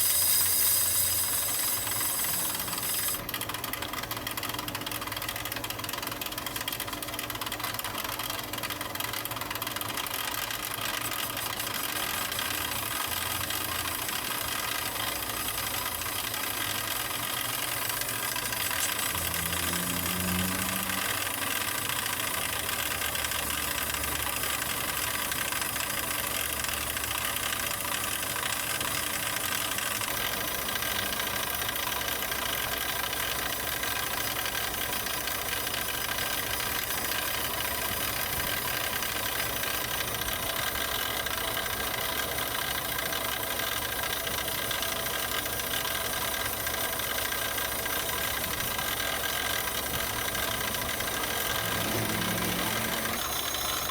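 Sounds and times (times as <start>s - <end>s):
machine running with hiss: 0.0s - 3.5s, 8.5s - 53.9s.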